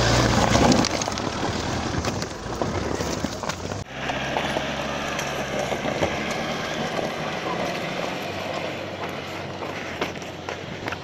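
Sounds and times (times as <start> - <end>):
tyres crunching on rocks: 0.0 - 11.0.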